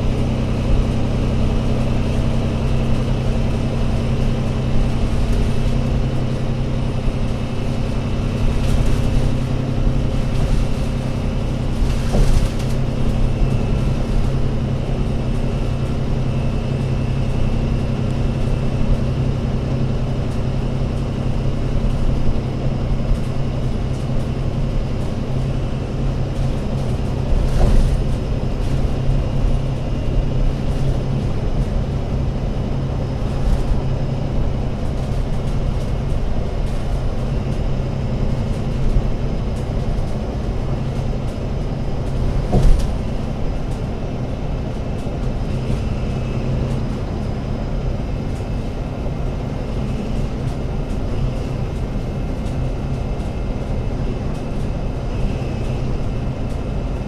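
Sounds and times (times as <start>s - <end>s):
bus diesel engine droning: 0.0s - 57.0s.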